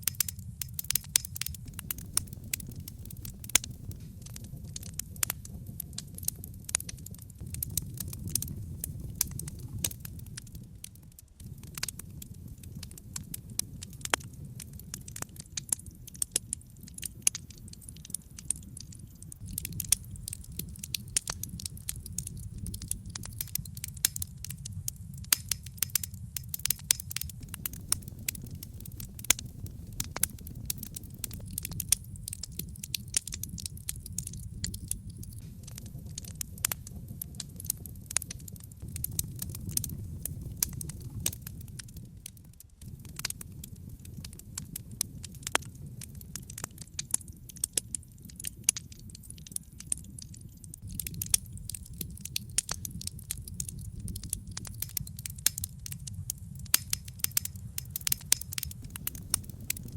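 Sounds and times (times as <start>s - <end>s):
burning logs snapping and popping: 0.0s - 59.9s
low rumble of flames: 0.0s - 59.9s
wood fire crackling: 0.0s - 59.9s.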